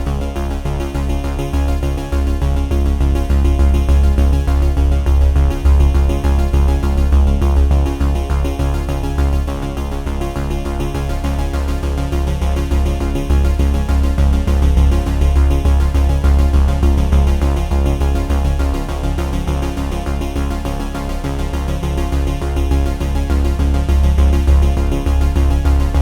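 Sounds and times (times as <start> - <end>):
pulsing bass: 0.0 - 26.0.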